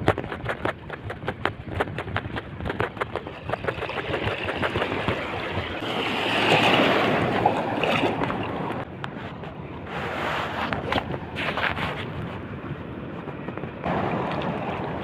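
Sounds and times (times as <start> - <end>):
water slapping: 0.0 - 12.5, 13.3 - 15.0
wind buffeting microphone: 0.0 - 15.0.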